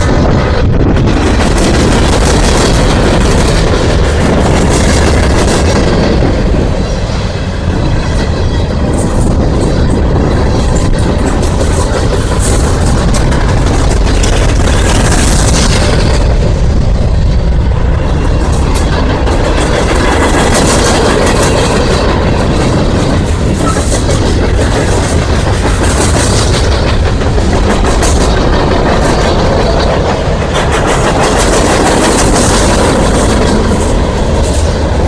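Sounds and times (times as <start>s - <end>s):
wheels clacking over rail joints: 0.0s - 35.0s.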